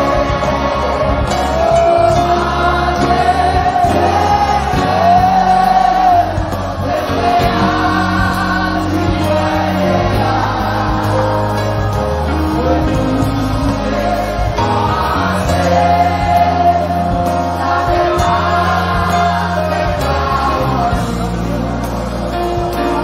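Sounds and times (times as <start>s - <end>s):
instrumental accompaniment with bass: 0.0s - 23.0s
voices singing gospel: 0.0s - 23.0s.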